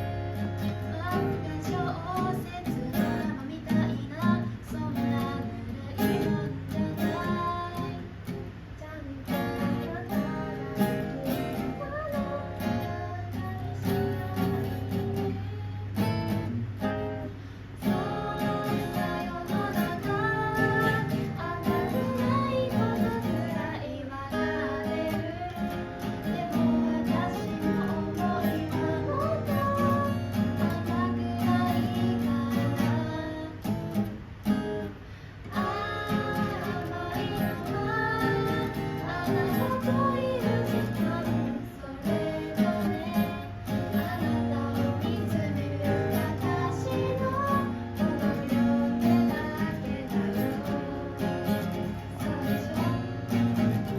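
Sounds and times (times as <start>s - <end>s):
acoustic guitar strumming: 0.0s - 53.9s
person singing: 0.6s - 16.2s, 17.8s - 34.0s, 35.4s - 53.9s.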